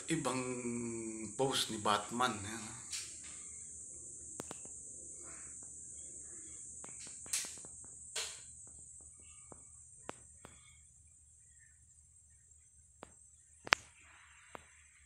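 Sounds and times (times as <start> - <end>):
faint high-pitched buzz: 0.0 - 15.0.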